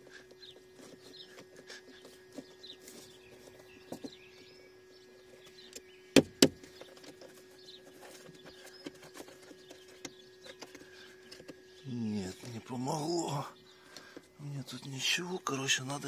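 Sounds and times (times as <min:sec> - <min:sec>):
birds chirping faintly: 0:00.0 - 0:16.0
car electrical hum: 0:00.0 - 0:16.0.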